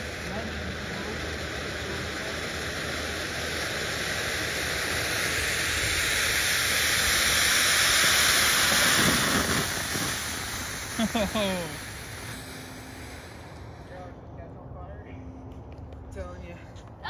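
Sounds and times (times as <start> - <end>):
firework fountain hissing: 0.0 - 14.8.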